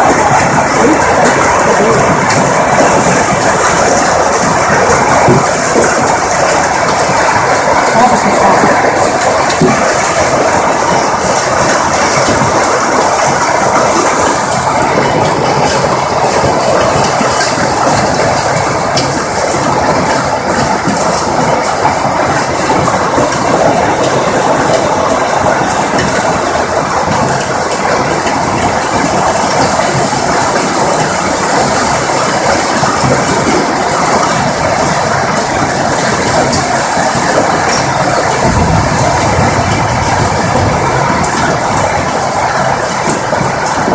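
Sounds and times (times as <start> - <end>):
hail and heavy rain pelting: 0.0 - 43.9.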